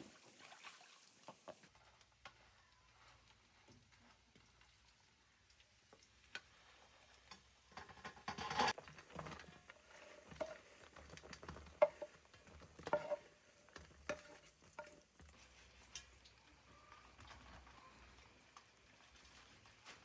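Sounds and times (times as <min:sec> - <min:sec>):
utensil scraping in a cooking pot: 0:01.5 - 0:04.9, 0:06.4 - 0:20.0.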